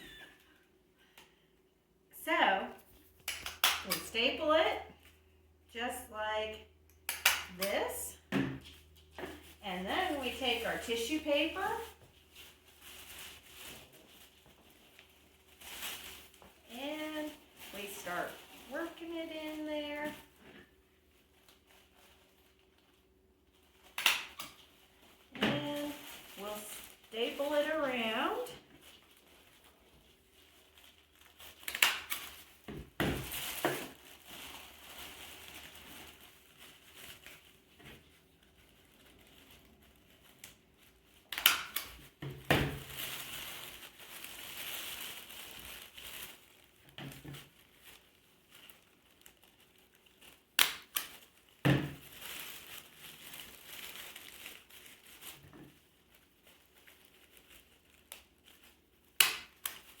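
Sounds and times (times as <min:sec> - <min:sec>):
tissue paper crinkling: 0:08.7 - 1:00.0.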